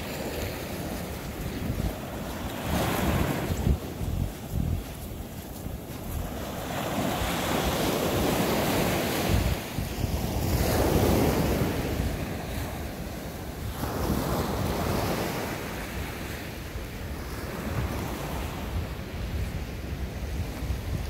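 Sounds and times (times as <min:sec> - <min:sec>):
waves washing onto shore: 0:00.0 - 0:21.0
wind buffeting microphone: 0:00.0 - 0:21.0.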